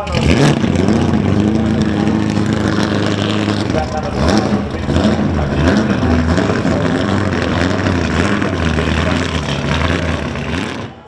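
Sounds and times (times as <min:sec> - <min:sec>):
car engine idling drone: 0:00.0 - 0:11.0.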